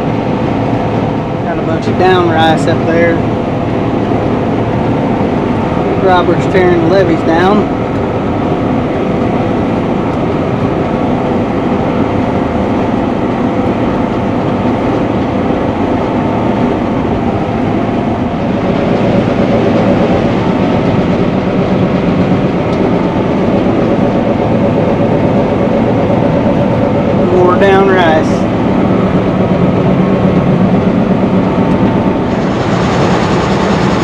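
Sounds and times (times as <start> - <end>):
combine harvester engine drone: 0.0 - 34.0.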